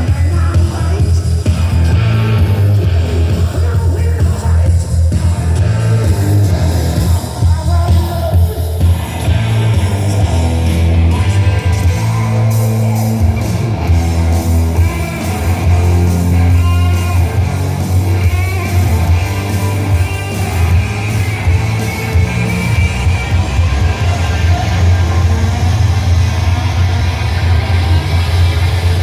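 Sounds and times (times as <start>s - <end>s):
rock music through car speakers: 0.0s - 29.0s.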